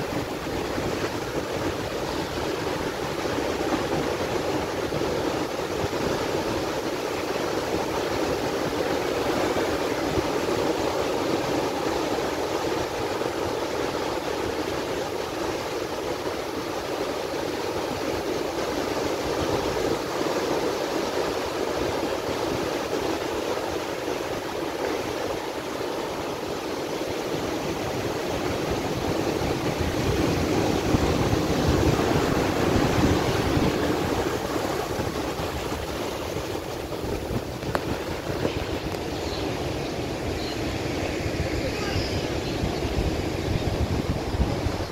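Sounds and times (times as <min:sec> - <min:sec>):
waves breaking on shore: 0:00.0 - 0:44.9.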